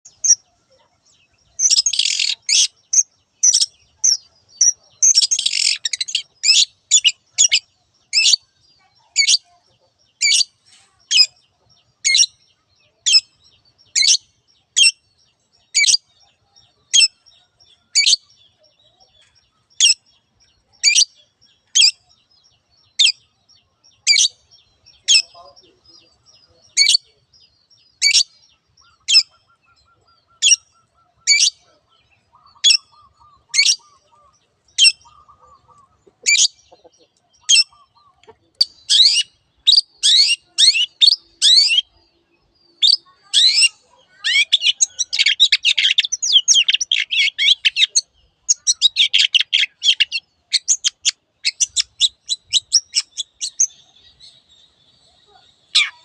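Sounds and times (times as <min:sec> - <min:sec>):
shrike calling and chattering: 0:00.1 - 0:56.0.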